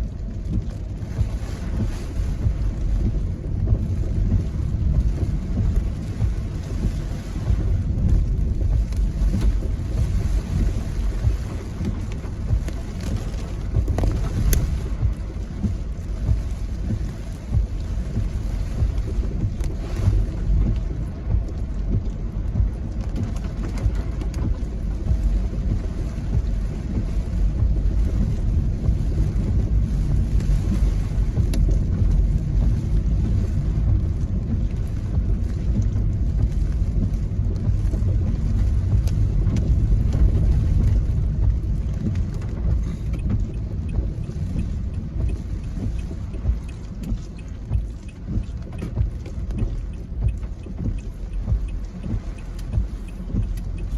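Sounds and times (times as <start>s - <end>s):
gusty wind buffeting microphone: 0.0s - 53.9s.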